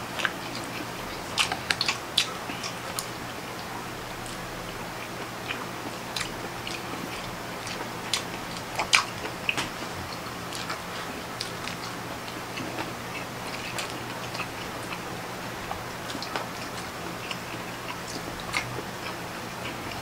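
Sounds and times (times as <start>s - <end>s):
wet chewing and lip-smacking: 0.2s - 20.0s.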